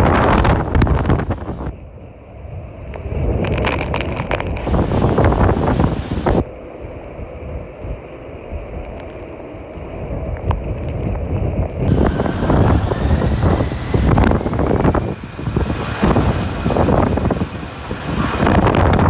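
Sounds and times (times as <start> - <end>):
faint high whine: 0.0 - 19.0
wind buffeting microphone: 0.0 - 19.0.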